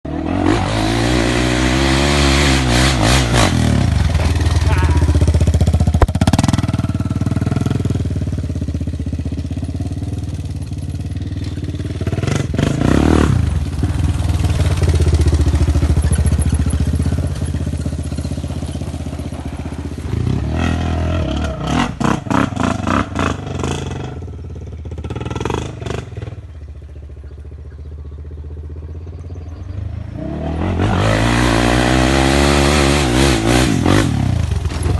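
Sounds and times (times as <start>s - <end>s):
quad bike engine revving: 0.1s - 34.9s.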